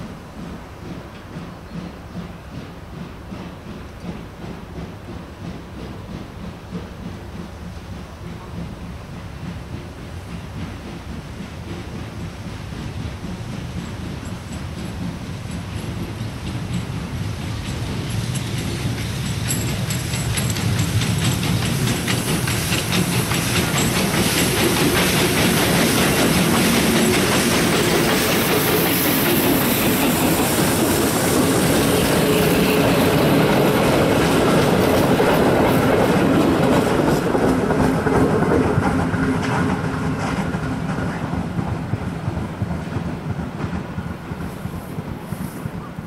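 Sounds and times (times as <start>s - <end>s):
steam locomotive exhaust beats: 0.0s - 46.0s
train wheels clattering over rail joints: 0.0s - 46.0s.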